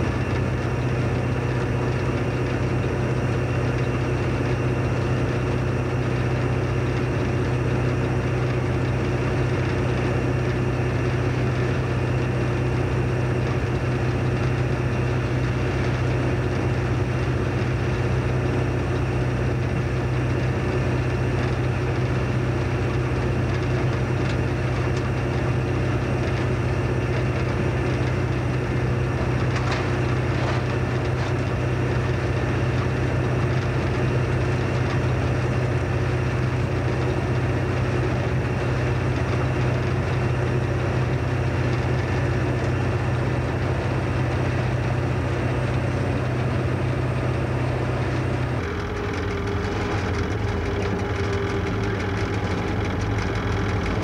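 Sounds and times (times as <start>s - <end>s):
diesel locomotive engine droning: 0.0s - 54.0s.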